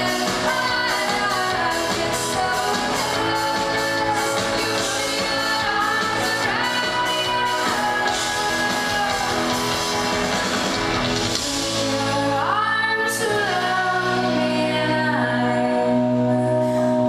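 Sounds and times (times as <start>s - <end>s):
woman singing: 0.0s - 10.3s, 11.3s - 17.0s
live rock band: 0.0s - 17.0s.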